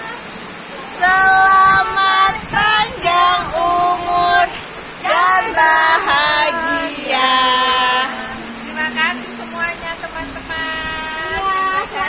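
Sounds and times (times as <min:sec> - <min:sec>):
women singing birthday song: 0:00.9 - 0:12.0.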